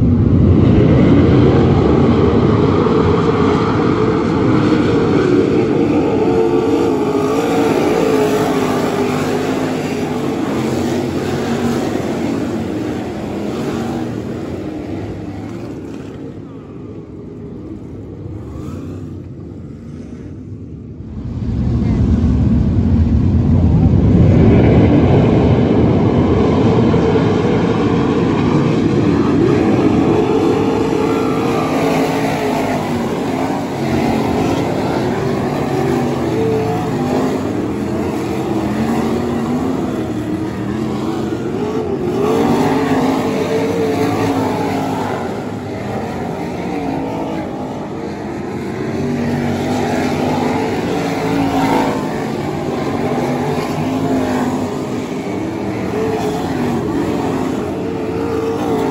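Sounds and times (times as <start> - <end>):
race car engines roaring: 0.0 - 58.9.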